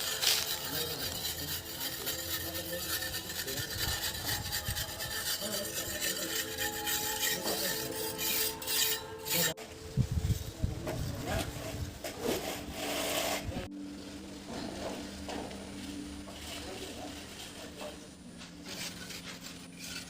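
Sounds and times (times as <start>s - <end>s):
hand tool scraping hard surface: 0.0s - 9.6s, 11.0s - 13.7s, 14.5s - 20.0s.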